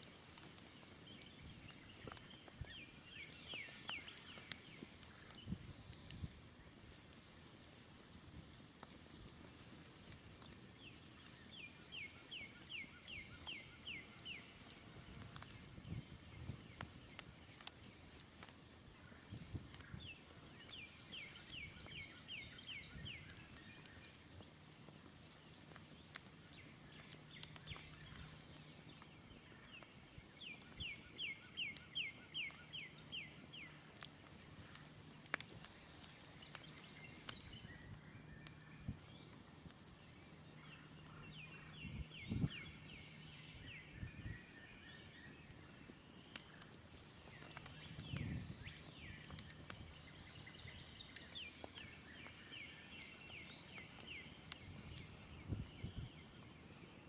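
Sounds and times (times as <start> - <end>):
songbird singing: 0.0 - 7.6, 8.4 - 57.0
campfire crackling: 0.0 - 57.0.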